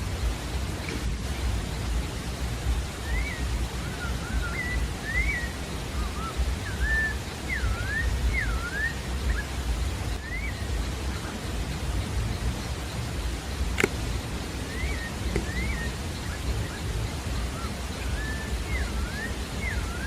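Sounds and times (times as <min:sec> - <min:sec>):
steady low rushing noise: 0:00.0 - 0:20.0
thrush singing whistled notes: 0:00.0 - 0:20.0.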